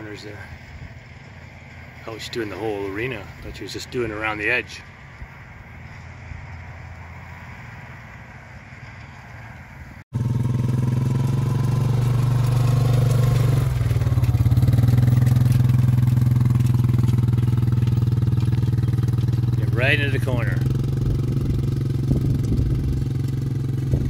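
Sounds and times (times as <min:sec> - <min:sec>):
small vehicle engine running: 0:00.0 - 0:24.0.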